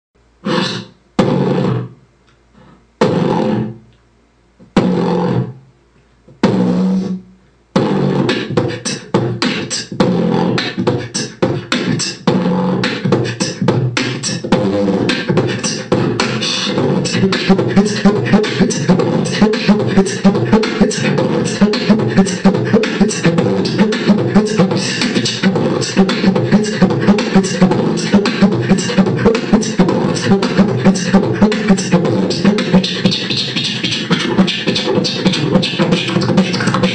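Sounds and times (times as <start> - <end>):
beatboxing: 0.4 - 4.0, 4.6 - 5.6, 6.3 - 36.9.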